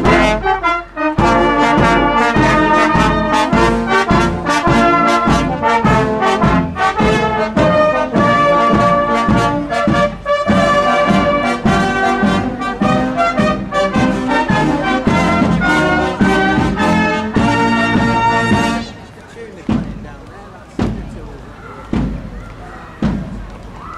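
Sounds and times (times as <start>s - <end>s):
brass band playing a march: 0.0s - 20.1s.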